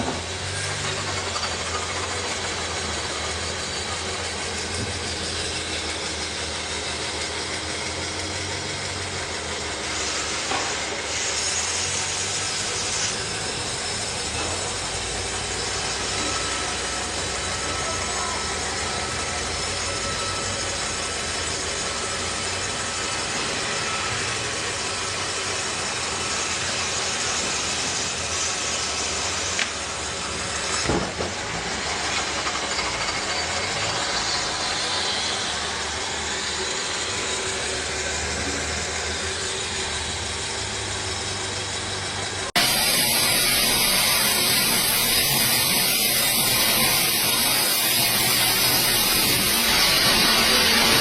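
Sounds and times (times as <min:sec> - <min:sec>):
sawmill machinery hissing: 0:00.0 - 0:51.0.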